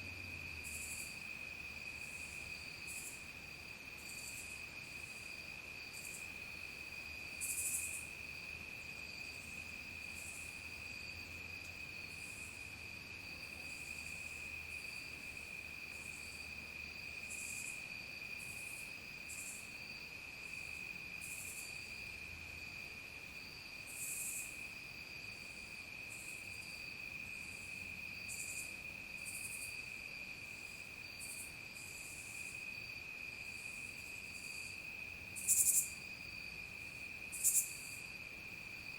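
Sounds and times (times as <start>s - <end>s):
crickets trilling: 0.0s - 38.9s
insect chirps: 0.0s - 38.9s.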